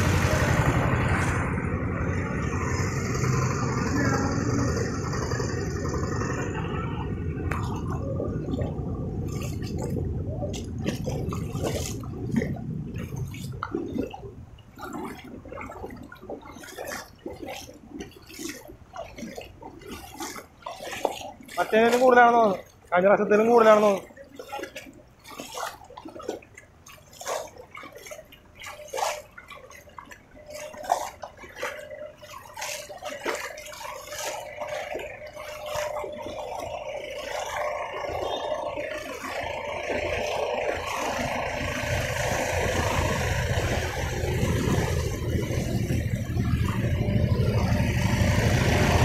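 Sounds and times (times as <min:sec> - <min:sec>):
feet wading through water: 0:00.0 - 0:49.0.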